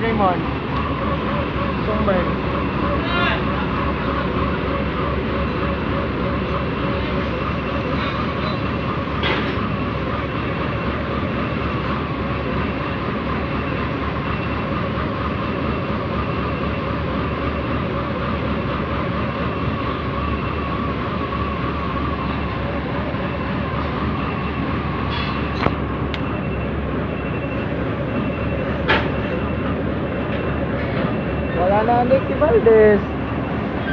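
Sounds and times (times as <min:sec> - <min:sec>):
heavy diesel engine droning: 0:00.0 - 0:33.9.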